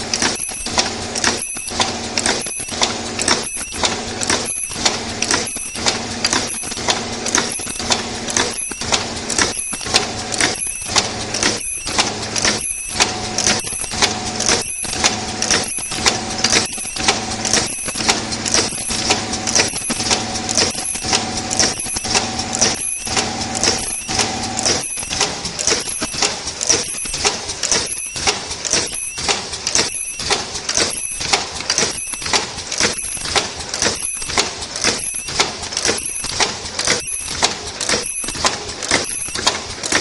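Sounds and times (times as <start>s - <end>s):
machine hum with mechanical stroke: 0.0s - 40.0s.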